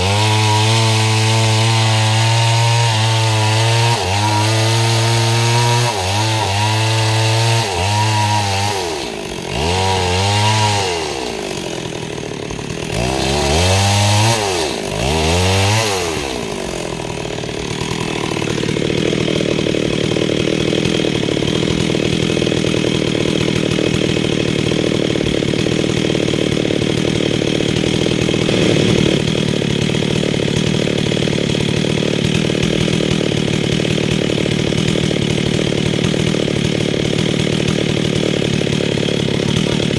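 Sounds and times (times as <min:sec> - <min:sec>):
chainsaw revving: 0:00.0 - 0:39.9
chainsaw sawing through wood: 0:00.0 - 0:39.9.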